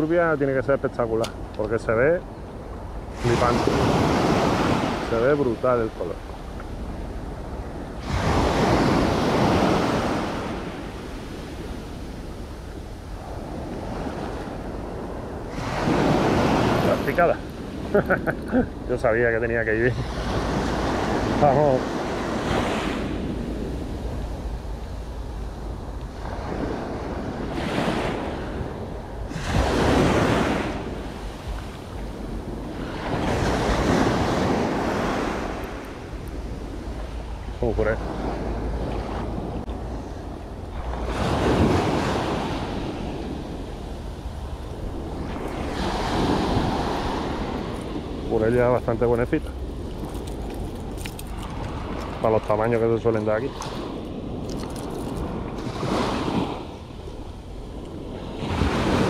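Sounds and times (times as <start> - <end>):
sea waves washing over rocks: 0.0 - 59.0
wind rumbling on microphone: 0.0 - 59.0.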